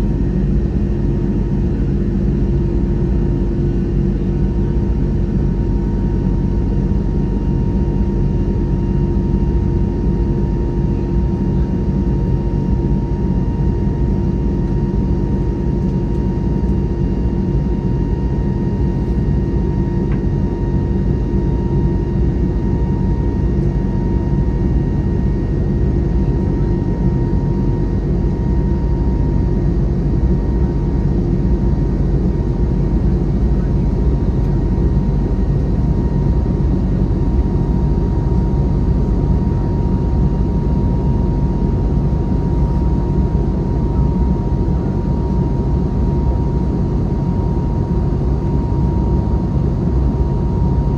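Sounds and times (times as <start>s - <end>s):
faint steady engine tones: 0.0s - 50.9s
jet cabin rumble: 0.0s - 50.9s.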